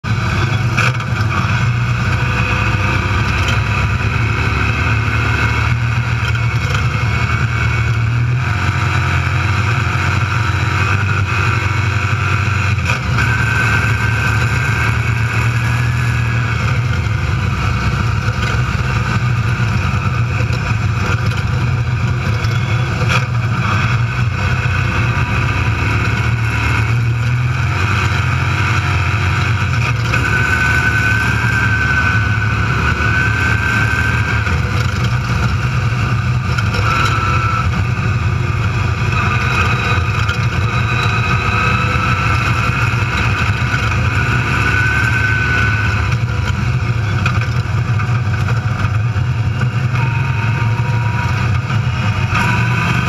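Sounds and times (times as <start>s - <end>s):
race car engine: 0.0s - 53.0s
road noise: 0.0s - 53.0s.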